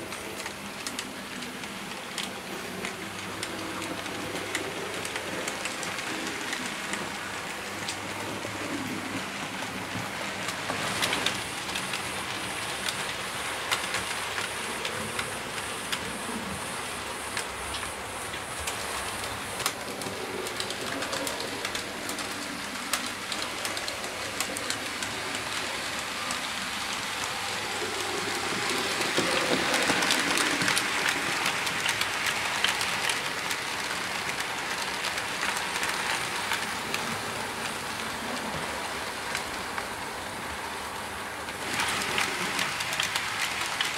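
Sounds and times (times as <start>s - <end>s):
model train rolling on track: 0.0s - 43.9s
wheels clicking on rail joints: 0.0s - 43.9s.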